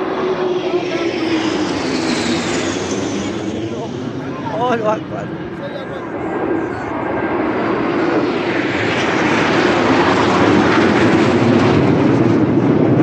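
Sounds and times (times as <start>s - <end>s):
military jets flying over: 0.0s - 13.0s.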